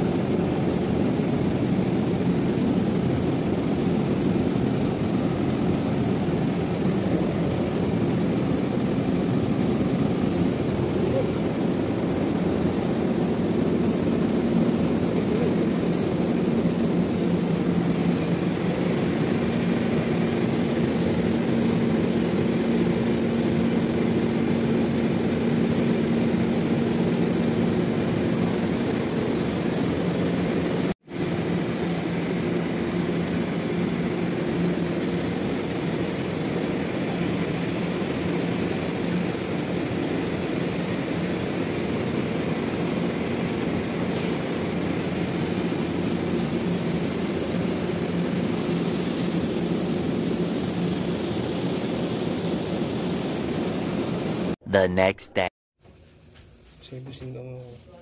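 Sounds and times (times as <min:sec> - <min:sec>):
industrial machinery humming: 0:00.0 - 0:55.5.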